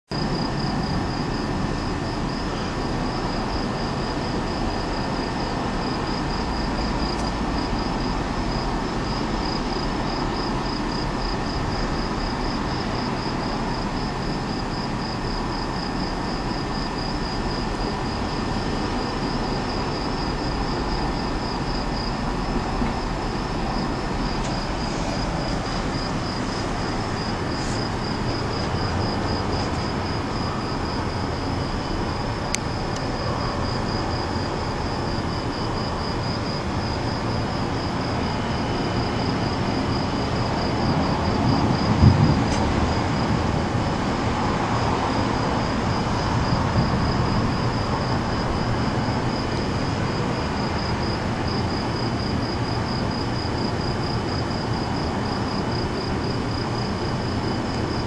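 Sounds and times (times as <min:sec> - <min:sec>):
night insects chirping: 0:00.1 - 0:58.0.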